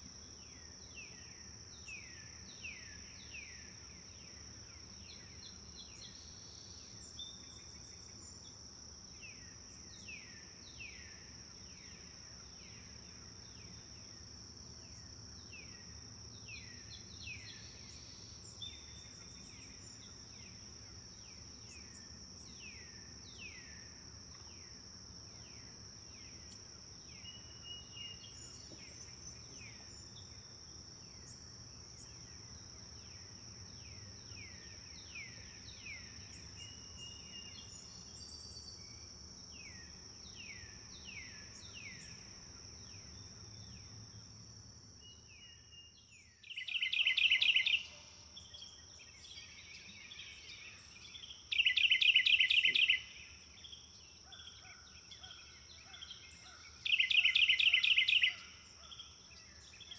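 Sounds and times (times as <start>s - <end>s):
insect drone: 0.0s - 59.9s.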